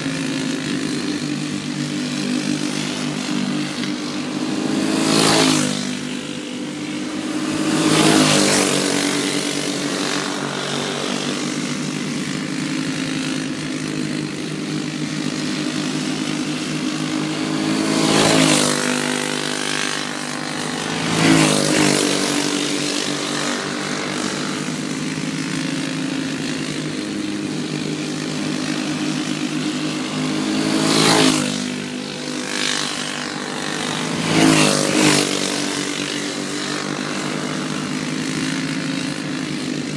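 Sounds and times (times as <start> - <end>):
go-kart engines droning: 0.0 - 39.9
go-kart passing by: 0.0 - 39.9.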